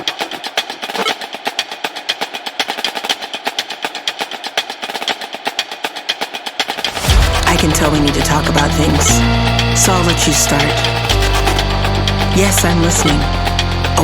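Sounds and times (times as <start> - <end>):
rapid sharp percussive taps: 0.0 - 14.0.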